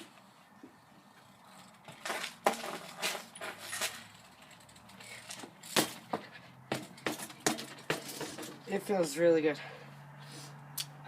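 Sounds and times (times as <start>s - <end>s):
bike drivetrain clicking and rattling: 0.0s - 9.2s.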